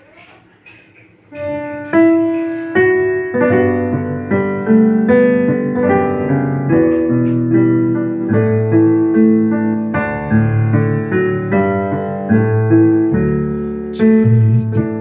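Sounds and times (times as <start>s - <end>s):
slow piano chords: 0.8s - 15.0s.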